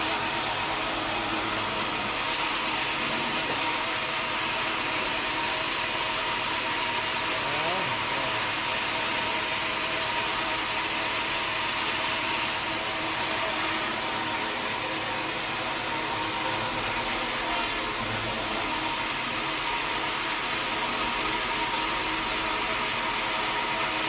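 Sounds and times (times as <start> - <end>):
machinery whine: 0.0 - 24.0
sawmill machinery drone: 0.0 - 24.0.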